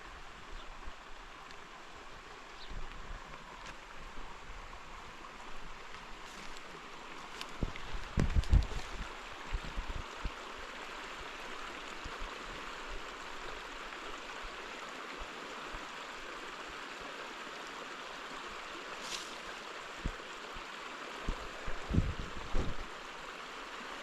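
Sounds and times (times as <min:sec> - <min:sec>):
running water rushing: 0:00.0 - 0:24.0.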